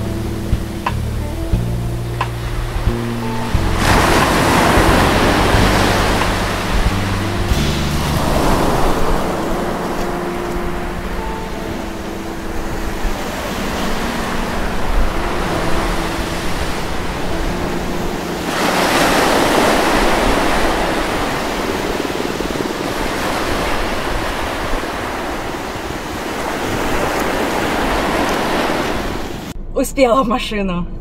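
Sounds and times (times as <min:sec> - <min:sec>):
ocean surf on beach: 0:00.0 - 0:29.6.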